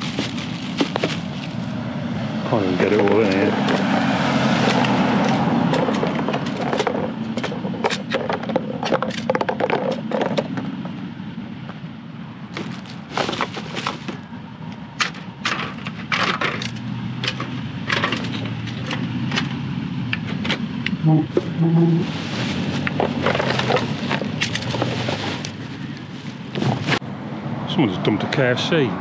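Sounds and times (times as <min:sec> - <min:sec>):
rubbish crackling and rustling: 0:00.0 - 0:01.8, 0:02.5 - 0:11.1, 0:12.5 - 0:14.4, 0:15.0 - 0:19.6, 0:20.2 - 0:27.0
van engine running: 0:00.0 - 0:28.6.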